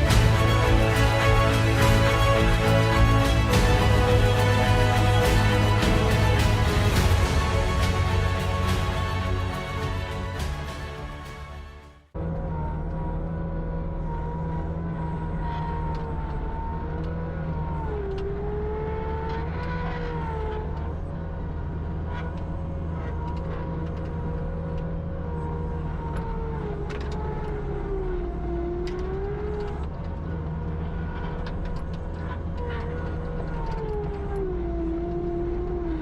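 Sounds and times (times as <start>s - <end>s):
low machine drone: 0.0s - 36.0s.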